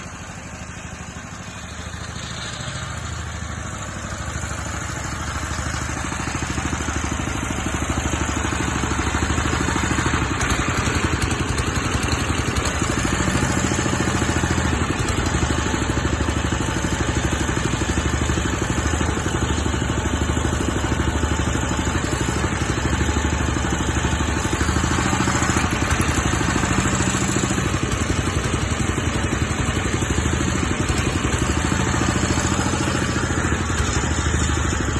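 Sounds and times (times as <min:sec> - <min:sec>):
drilling rig engine running: 0:00.0 - 0:34.9.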